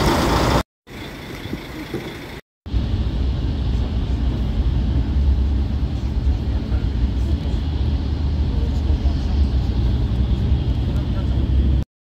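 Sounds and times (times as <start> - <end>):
bus engine and road rumble: 0.0 - 11.9.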